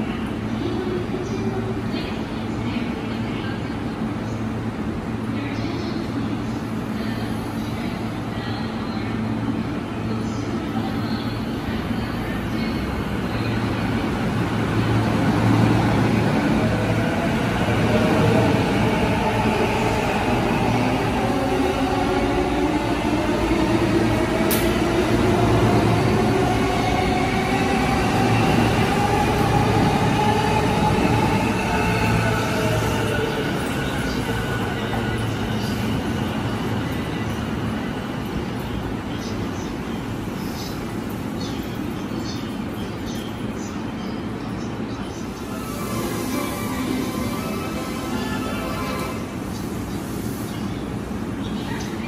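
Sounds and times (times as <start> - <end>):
electric train humming: 3.9 - 43.6, 44.3 - 52.0.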